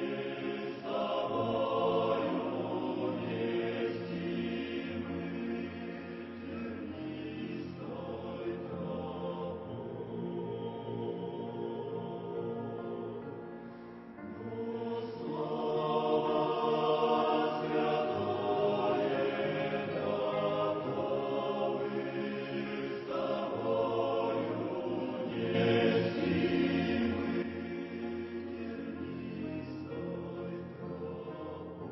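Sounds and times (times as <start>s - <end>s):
choir singing a slow hymn: 0.0s - 31.9s.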